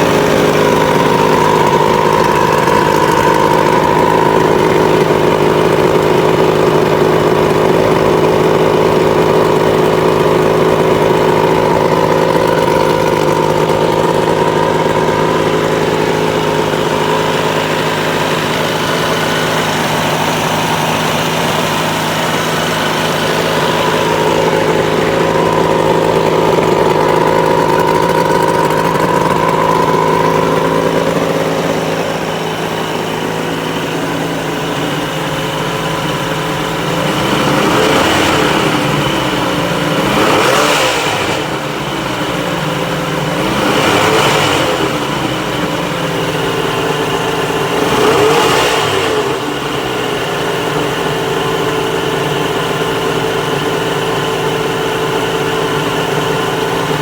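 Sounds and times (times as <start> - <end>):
outboard motor idling and revving: 0.0 - 57.0.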